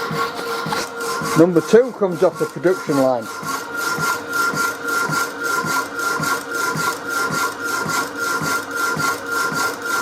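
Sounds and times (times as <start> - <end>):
power hacksaw sawing metal: 0.0 - 10.0.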